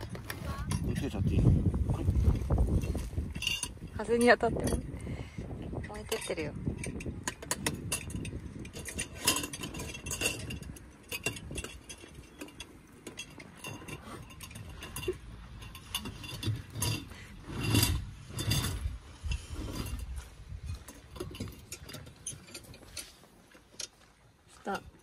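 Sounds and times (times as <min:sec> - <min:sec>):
glass and metal clinking: 0:02.4 - 0:05.0, 0:05.8 - 0:24.0.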